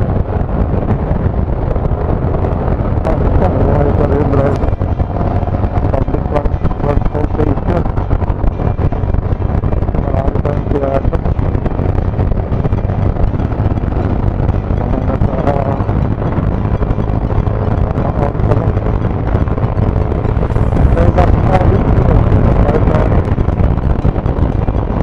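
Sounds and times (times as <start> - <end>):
motorcycle engine: 0.0 - 25.0
traffic: 0.0 - 25.0
wind buffeting microphone: 0.0 - 25.0.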